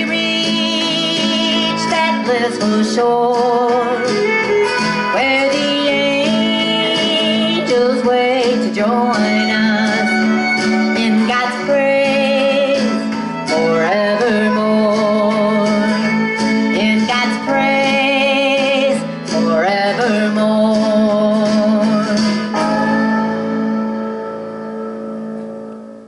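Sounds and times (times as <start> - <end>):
woman singing: 0.0 - 24.0
acoustic guitar: 0.0 - 26.0.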